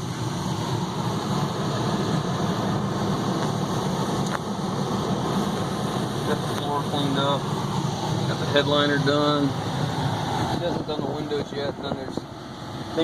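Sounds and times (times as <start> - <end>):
air-conditioning blower: 0.0 - 13.0
engine idling: 0.0 - 13.0.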